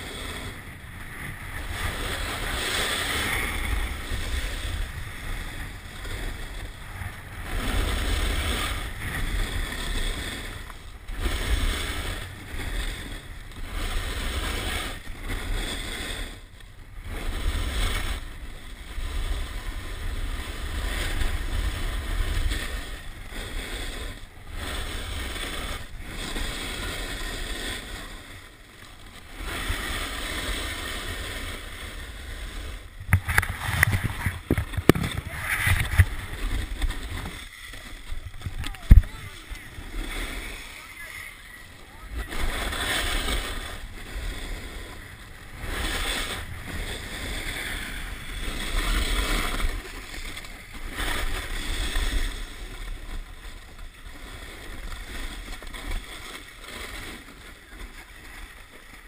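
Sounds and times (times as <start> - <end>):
snowboard scraping on snow: 0.0 - 59.0
wind rumbling on microphone: 0.0 - 59.0.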